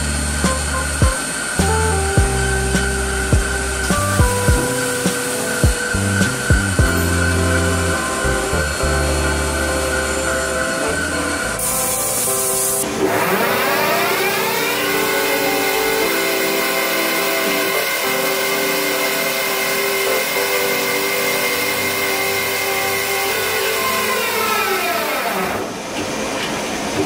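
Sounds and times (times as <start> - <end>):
lathe spindle whining: 2.7 - 26.9.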